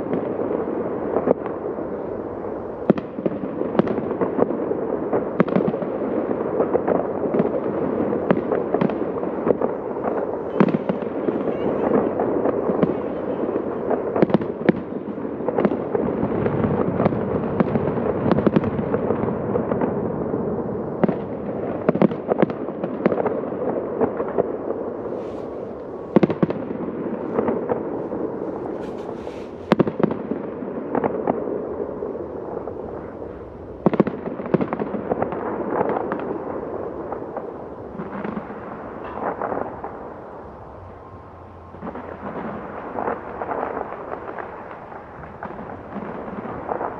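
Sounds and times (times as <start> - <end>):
fireworks bangs and pops: 0.0 - 40.9, 41.7 - 46.9
crackle of bursting shells: 2.9 - 33.0, 33.8 - 40.4, 41.7 - 46.9.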